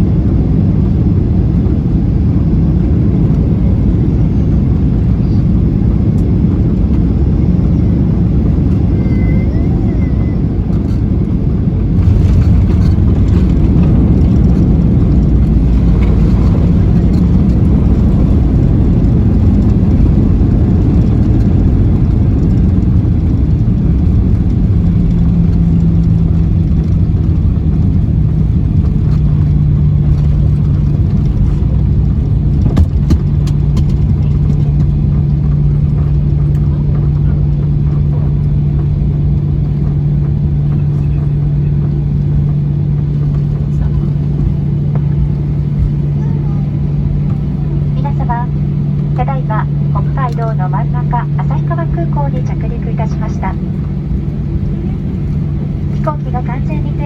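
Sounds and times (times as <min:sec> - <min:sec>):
jet engines and wheels rumbling: 0:00.0 - 0:57.0
low steady hum: 0:00.0 - 0:57.0.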